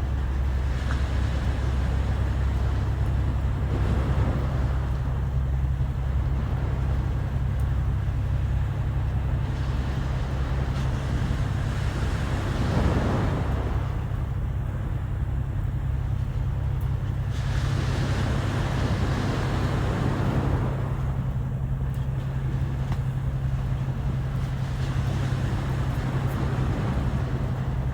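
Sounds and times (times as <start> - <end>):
sea waves washing ashore: 0.0 - 27.9.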